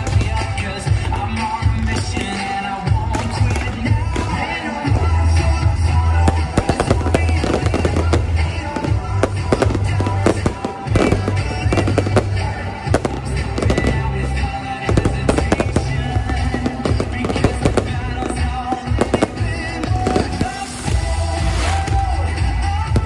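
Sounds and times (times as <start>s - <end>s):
fireworks banging: 0.0s - 23.0s
music with deep bass: 0.0s - 23.0s.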